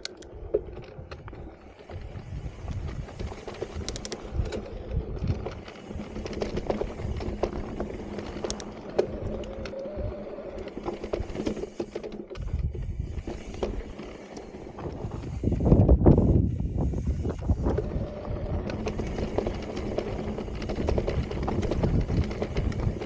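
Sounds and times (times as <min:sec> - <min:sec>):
bike rattling: 0:00.0 - 0:23.0.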